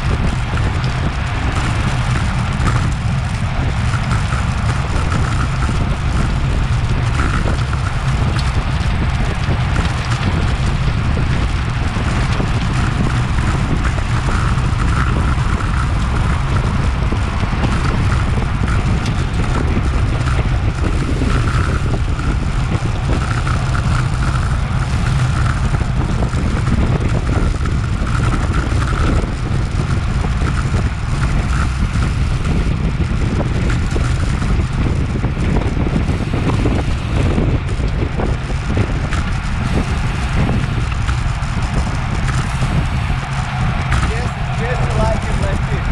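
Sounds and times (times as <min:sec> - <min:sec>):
road and tyre noise: 0:00.0 - 0:45.9
wind rumble on microphone: 0:00.0 - 0:45.9.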